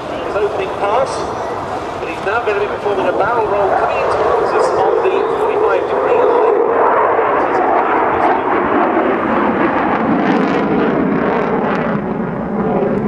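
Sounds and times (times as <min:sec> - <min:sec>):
jet passing with crackle: 0:00.0 - 0:13.0.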